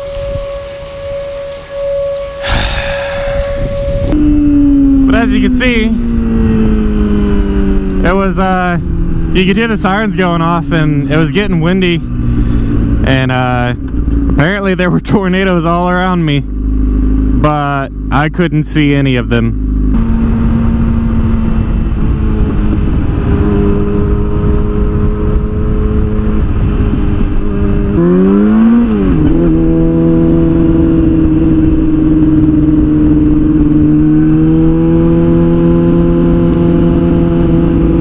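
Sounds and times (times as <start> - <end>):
wind noise: 0.0 - 15.6, 19.9 - 38.0
motorcycle engine running: 0.0 - 38.0.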